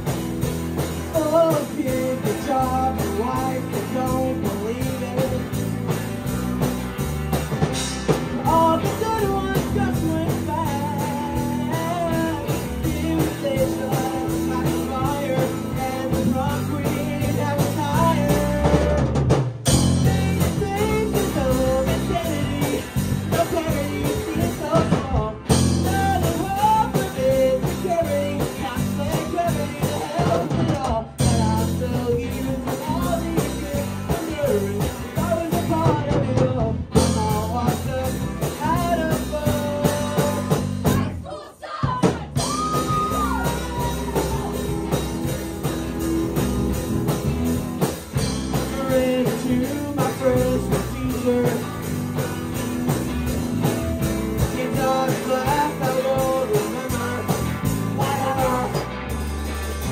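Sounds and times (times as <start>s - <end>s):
electric guitar: 0.0s - 41.2s, 42.4s - 59.9s
bass guitar: 0.0s - 59.9s
drums: 0.0s - 59.9s
lead vocals singing: 1.0s - 6.0s, 8.3s - 46.8s, 48.2s - 52.6s, 54.0s - 59.0s.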